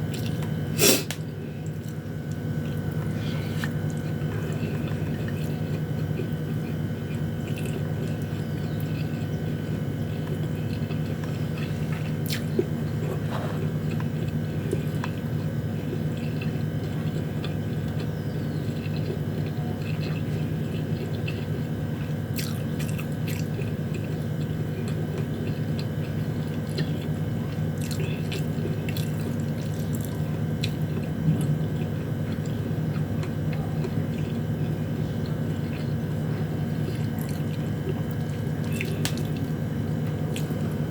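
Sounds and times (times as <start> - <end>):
person chewing food: 0.0 - 40.9
steady low hum: 0.0 - 40.9.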